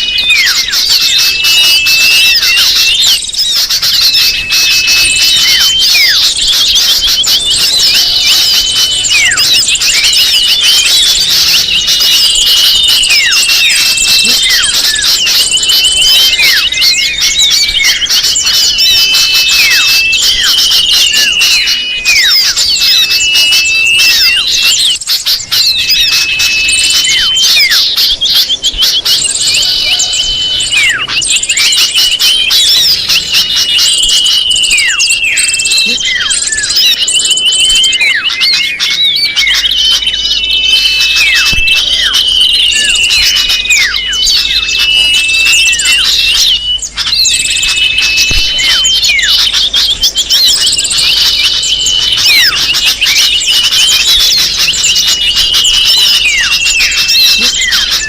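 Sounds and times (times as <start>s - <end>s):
small birds chirping and twittering: 0.0s - 58.0s.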